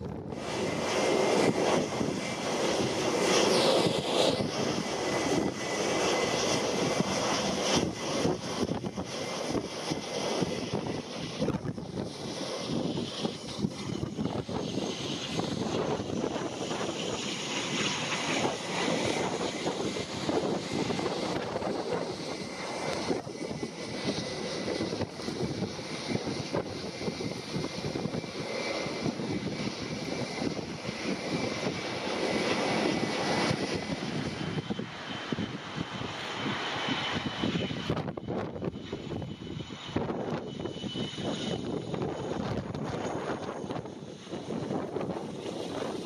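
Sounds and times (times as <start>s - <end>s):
turboprop engines passing low: 0.0s - 46.0s
wind buffeting the microphone: 0.0s - 46.0s.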